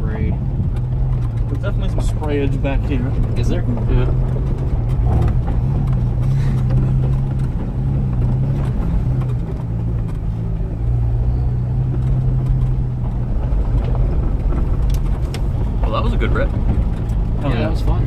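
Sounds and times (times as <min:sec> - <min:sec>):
engine droning under load: 0:00.0 - 0:18.0.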